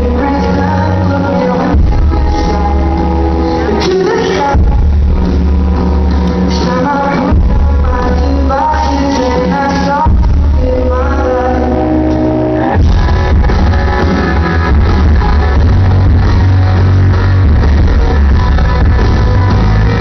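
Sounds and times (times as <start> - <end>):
person singing: 0.0 - 20.0
rock band playing live: 0.0 - 20.0.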